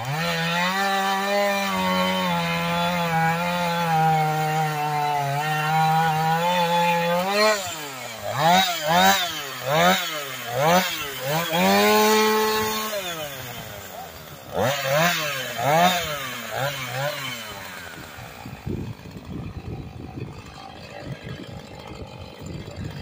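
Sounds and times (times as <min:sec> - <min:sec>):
chainsaw cutting log: 0:00.0 - 0:23.0
chainsaw throttle revving: 0:00.0 - 0:23.0.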